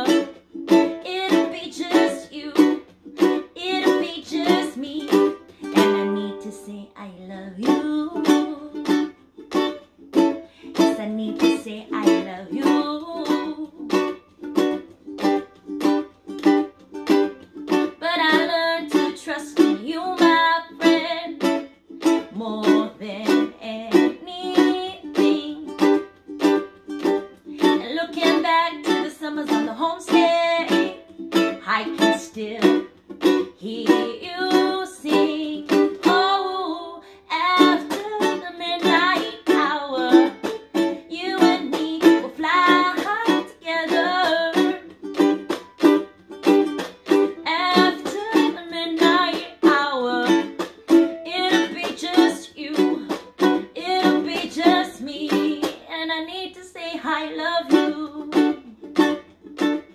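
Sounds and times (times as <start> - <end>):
woman singing: 0.0 - 9.1, 10.6 - 14.2, 17.8 - 26.2, 27.4 - 46.0, 47.1 - 58.9
ukulele strumming: 0.0 - 59.9.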